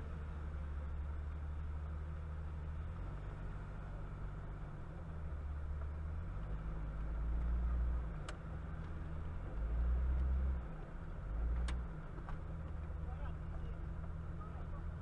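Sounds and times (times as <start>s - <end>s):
car engine rumble: 0.0s - 15.0s
road noise inside car: 0.0s - 15.0s.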